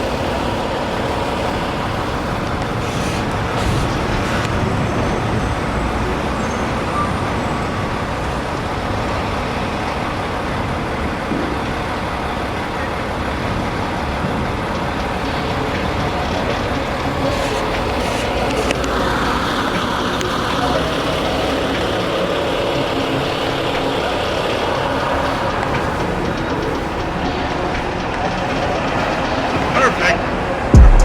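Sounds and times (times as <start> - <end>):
trucks and road traffic: 0.0 - 31.0.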